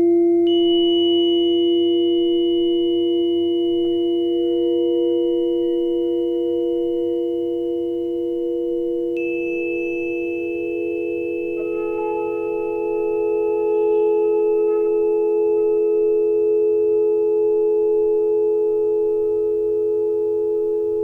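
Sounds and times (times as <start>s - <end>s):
tuning forks ringing: 0.5s - 21.0s.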